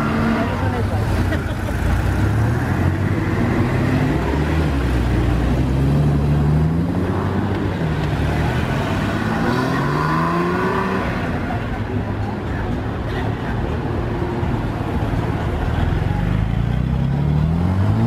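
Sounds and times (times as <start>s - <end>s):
car engines accelerating: 0.0s - 18.0s.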